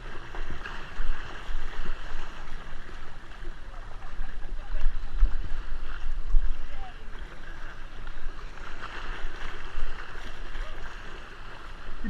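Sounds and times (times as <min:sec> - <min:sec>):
hulls churning through water: 0:00.0 - 0:12.0
paddles splashing water: 0:00.0 - 0:12.0.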